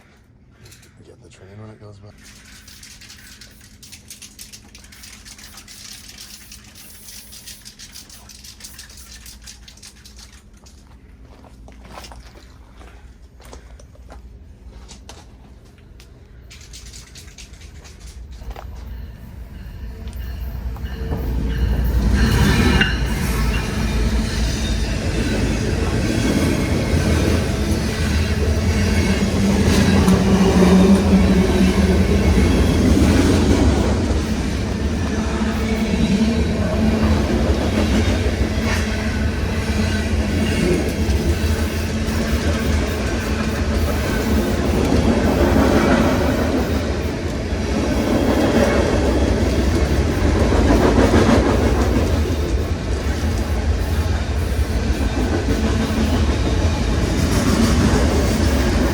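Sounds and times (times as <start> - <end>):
train wheels rumbling on rails: 2.2 - 58.9.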